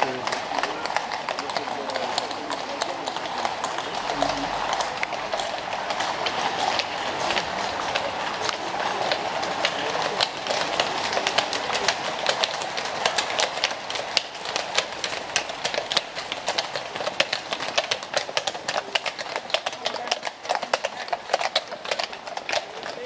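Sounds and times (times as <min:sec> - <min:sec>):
carriage wheels rumbling: 0:00.0 - 0:23.0
hooves clip-clopping on paving stones: 0:00.0 - 0:23.0.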